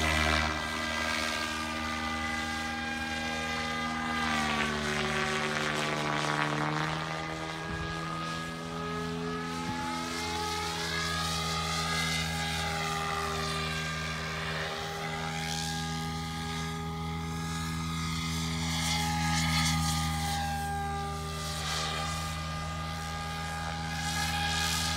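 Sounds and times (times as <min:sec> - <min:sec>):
constant low hum: 0:00.0 - 0:24.9
model helicopter motor whine: 0:00.0 - 0:24.9.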